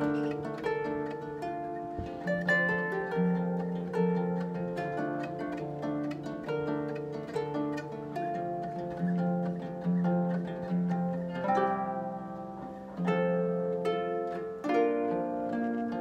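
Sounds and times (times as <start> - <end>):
harp playing solo: 0.0 - 16.0.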